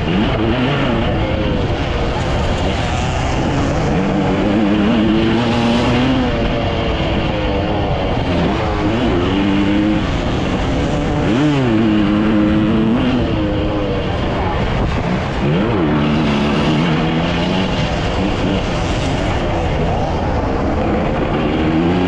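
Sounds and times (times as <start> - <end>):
dirt bike engine revving: 0.0 - 22.0
wind rush: 0.0 - 22.0.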